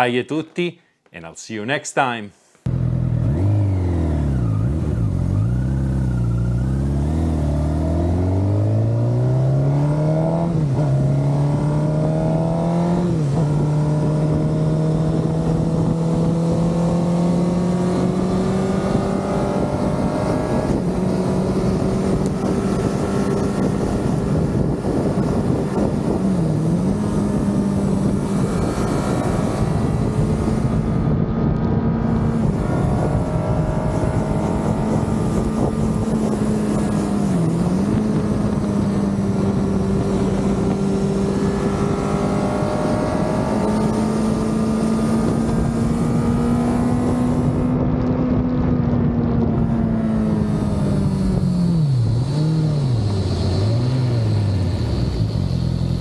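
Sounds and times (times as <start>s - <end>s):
motorcycle engine cruising: 2.6s - 56.0s.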